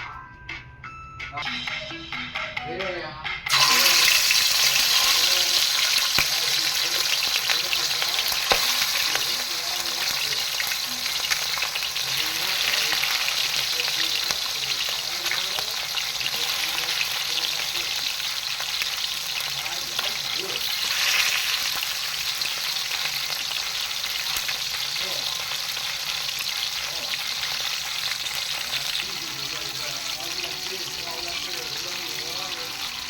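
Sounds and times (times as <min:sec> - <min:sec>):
food sizzling in a pan: 0:03.5 - 0:33.0.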